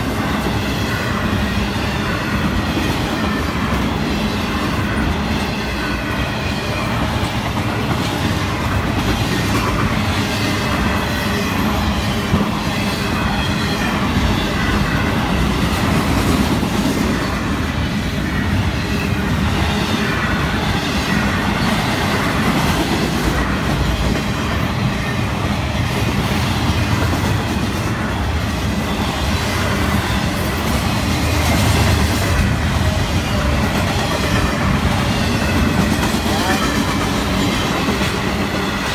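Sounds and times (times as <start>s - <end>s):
freight train rumble: 0.0s - 38.9s.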